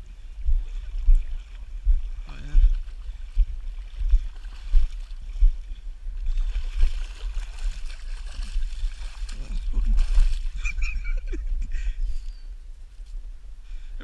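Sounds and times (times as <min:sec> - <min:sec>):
wind buffeting on microphone: 0:00.0 - 0:14.0.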